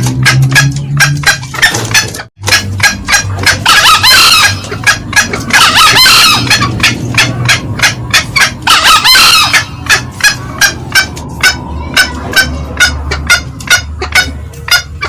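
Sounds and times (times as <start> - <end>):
junglefowl cackling: 0.0 - 15.0.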